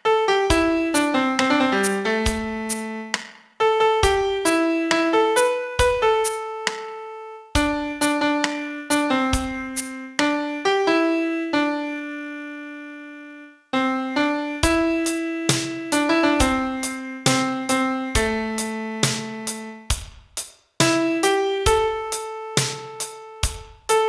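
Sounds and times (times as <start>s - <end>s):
piano melody: 0.0s - 19.9s, 20.8s - 24.0s.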